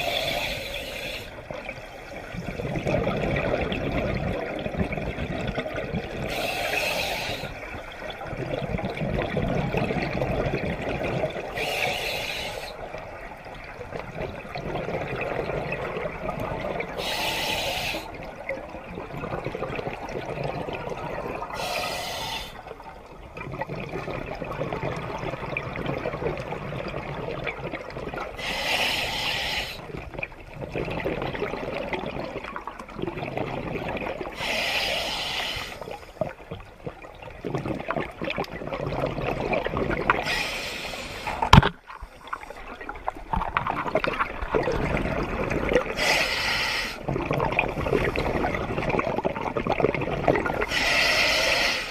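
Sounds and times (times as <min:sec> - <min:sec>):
low rumble of water: 0:00.0 - 0:51.9
exhaled bubbles rushing: 0:01.4 - 0:11.9, 0:12.7 - 0:17.1, 0:18.0 - 0:21.7, 0:22.6 - 0:28.4, 0:29.8 - 0:34.5, 0:36.2 - 0:40.4, 0:41.3 - 0:46.2, 0:47.0 - 0:50.8.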